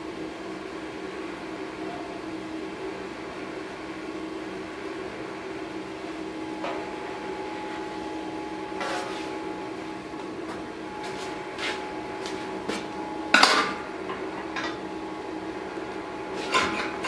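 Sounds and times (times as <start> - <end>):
forge burner humming and hissing: 0.0 - 17.0.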